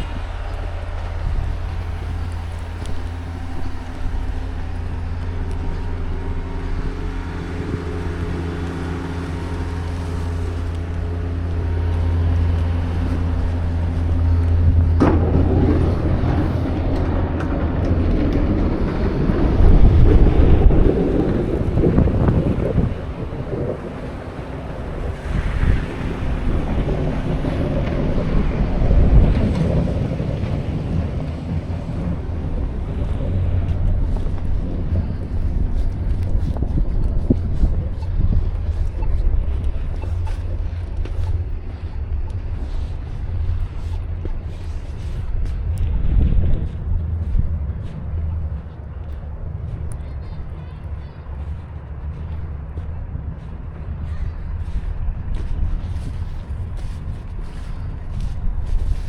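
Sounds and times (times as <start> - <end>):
low engine hum: 0.0 - 59.0
wind buffeting microphone: 0.0 - 59.0.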